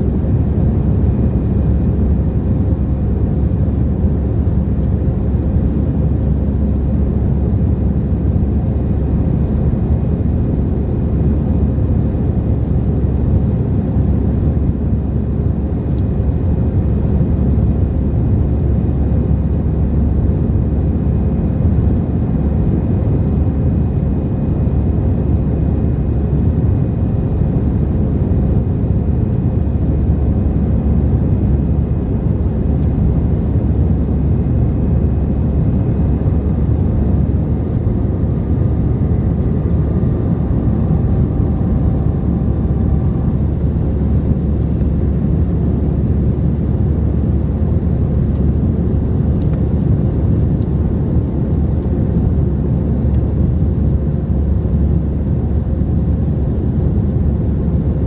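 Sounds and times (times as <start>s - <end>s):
jet engines and airflow rumble: 0.0s - 58.0s.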